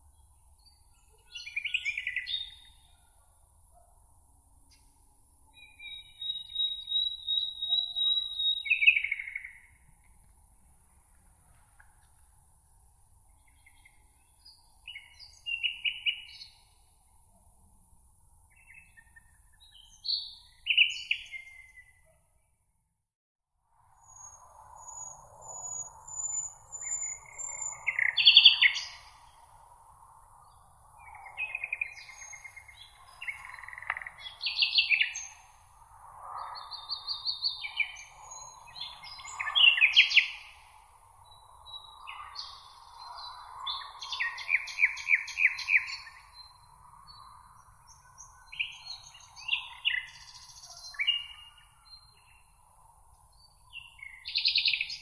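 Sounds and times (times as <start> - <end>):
songbirds singing: 0.0 - 3.9, 4.7 - 10.3, 13.2 - 17.0, 18.5 - 22.2, 24.0 - 55.0.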